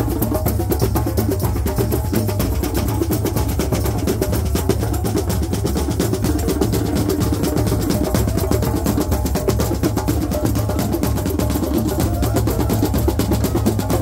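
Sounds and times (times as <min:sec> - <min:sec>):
drum circle playing fast rhythm: 0:00.0 - 0:14.0.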